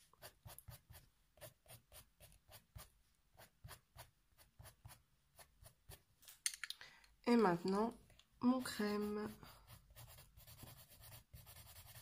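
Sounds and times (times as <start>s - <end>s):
pencil strokes on paper: 0.0s - 6.1s, 8.4s - 12.0s.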